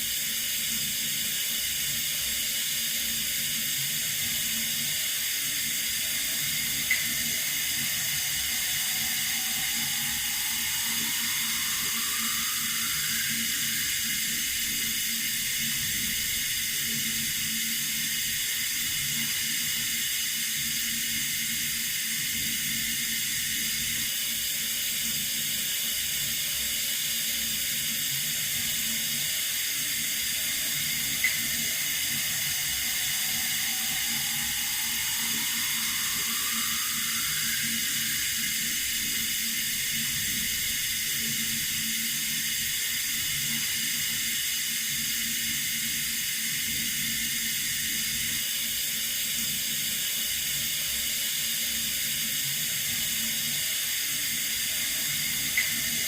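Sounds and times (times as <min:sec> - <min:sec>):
water running from tap: 0:00.1 - 0:56.0.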